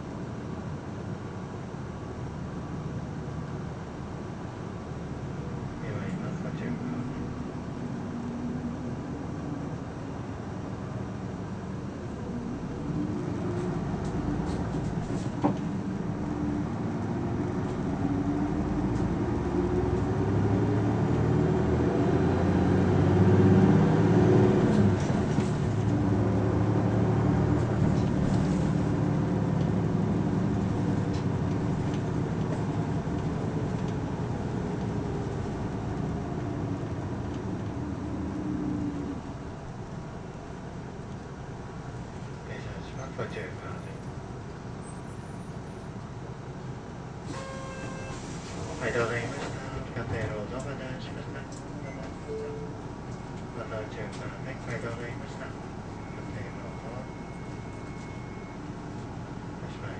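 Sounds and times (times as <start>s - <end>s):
bus diesel engine accelerating: 0.0s - 59.9s.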